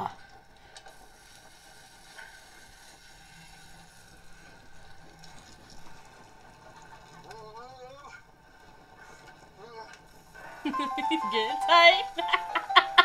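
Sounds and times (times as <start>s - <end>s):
shower water running: 0.0s - 13.0s.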